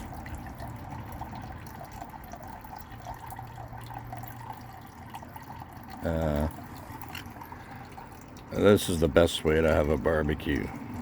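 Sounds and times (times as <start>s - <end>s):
water fountain trickling: 0.0s - 11.0s.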